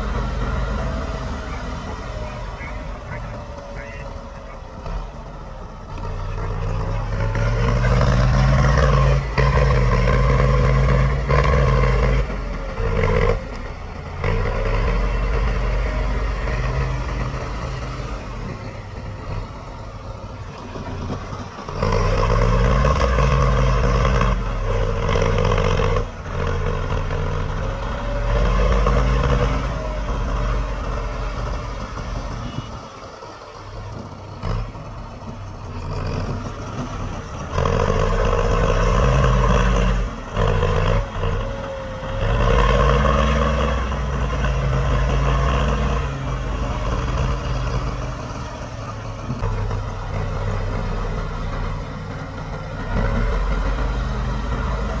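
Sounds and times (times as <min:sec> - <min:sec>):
heavy diesel engines revving: 0:00.0 - 0:55.0.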